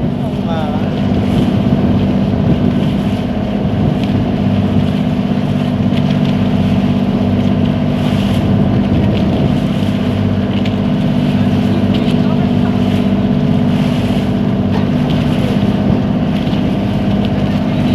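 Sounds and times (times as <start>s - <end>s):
motorboat engine droning: 0.0s - 17.9s
wind: 0.0s - 17.9s.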